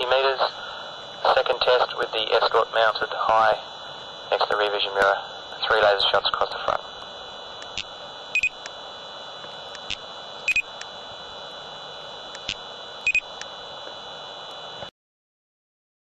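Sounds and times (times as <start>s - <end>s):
steady high whine and hiss: 0.0s - 14.9s.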